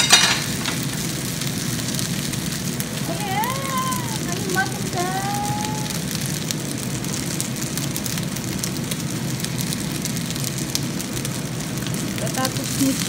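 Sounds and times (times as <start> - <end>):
rice sizzling in frying pan: 0.0 - 13.0.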